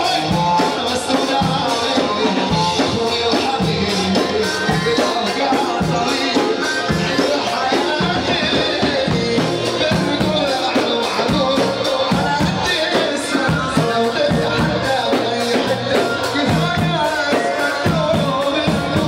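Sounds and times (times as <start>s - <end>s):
man singing with band: 0.0s - 19.0s
steady drum beat: 0.0s - 19.0s.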